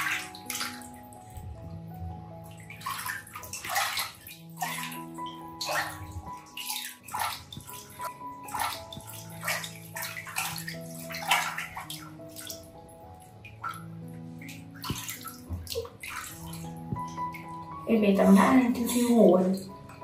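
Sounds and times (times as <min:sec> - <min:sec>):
water splashing in a basin: 0:00.0 - 0:01.6, 0:02.4 - 0:12.8, 0:13.4 - 0:20.0
background music: 0:00.0 - 0:20.0.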